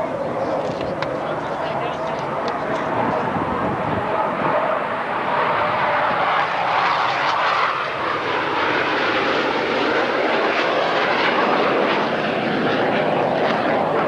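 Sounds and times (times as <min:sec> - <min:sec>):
jets roaring overhead: 0:00.0 - 0:14.0.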